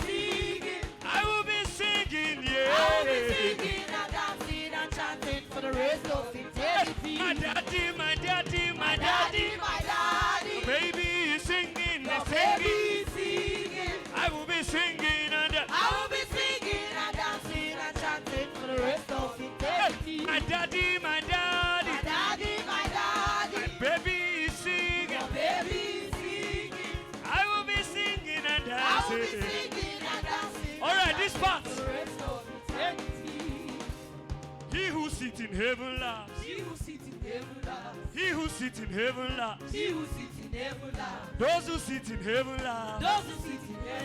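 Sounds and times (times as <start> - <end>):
praise band playing upbeat music: 0.0 - 44.0
steady drum beat: 0.0 - 44.0
voices singing: 0.0 - 44.0.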